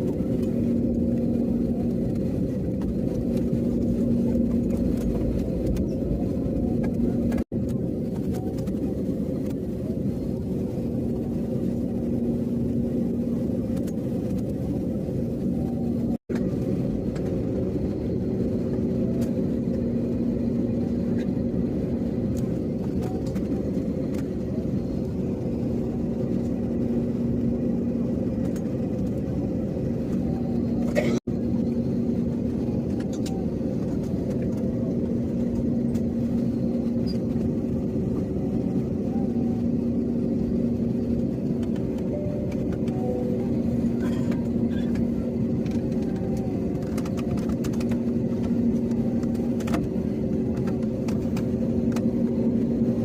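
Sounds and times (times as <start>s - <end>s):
aircraft cabin rumble: 0.0s - 53.0s
low engine hum: 0.0s - 53.0s.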